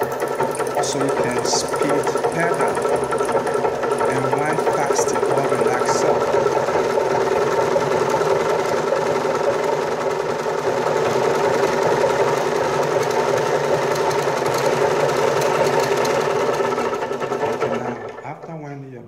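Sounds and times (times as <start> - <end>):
sewing machine running: 0.0 - 19.0.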